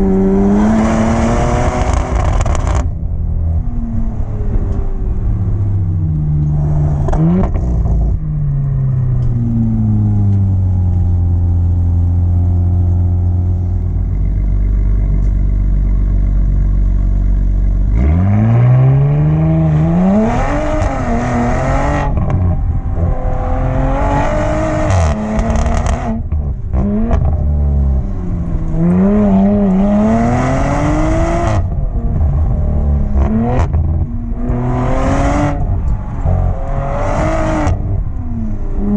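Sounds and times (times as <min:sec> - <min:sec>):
car engine revving through gears: 0:00.0 - 0:03.0, 0:06.2 - 0:13.9, 0:17.8 - 0:38.9.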